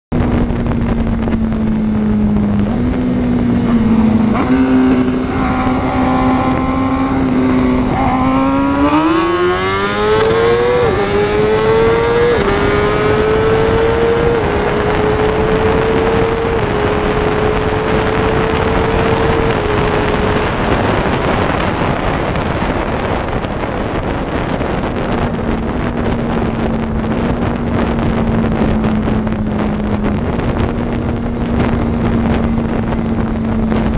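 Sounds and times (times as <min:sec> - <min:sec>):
motorcycle engine: 0:00.1 - 0:33.9
wind noise on microphone: 0:00.1 - 0:33.9.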